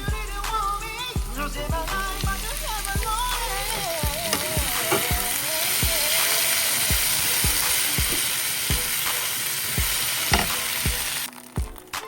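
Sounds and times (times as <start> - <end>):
background music with a beat: 0.0 - 12.0
chicken sizzling in a frying pan: 0.0 - 12.0.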